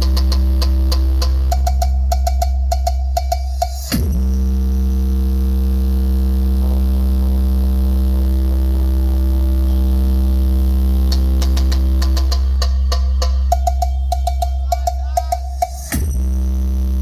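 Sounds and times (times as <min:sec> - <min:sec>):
deep bass drone from speaker: 0:00.0 - 0:17.0.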